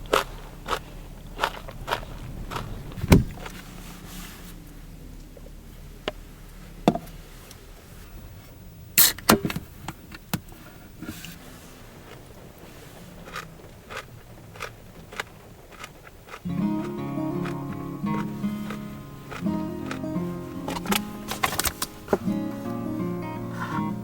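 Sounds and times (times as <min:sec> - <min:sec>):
faint steady background: 0:00.0 - 0:24.0.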